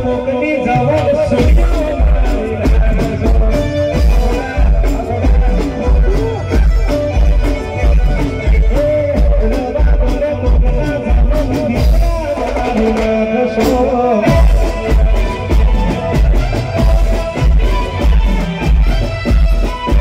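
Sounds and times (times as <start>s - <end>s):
heavy drum beat: 0.0s - 20.0s
keyboard: 0.0s - 20.0s
person singing: 0.0s - 20.0s.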